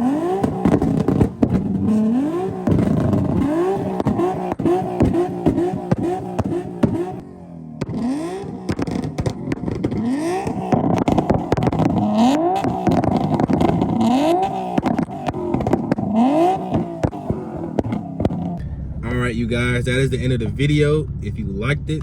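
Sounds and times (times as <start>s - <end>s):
exhaust pops and cracks: 0.0s - 7.2s, 7.8s - 18.9s
car engine revving: 0.0s - 22.0s.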